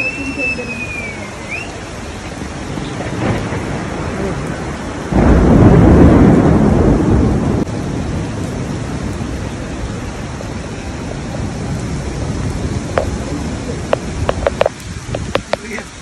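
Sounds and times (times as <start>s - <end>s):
rain falling steadily: 0.0s - 16.0s
loud low thunder rumble: 2.2s - 15.5s.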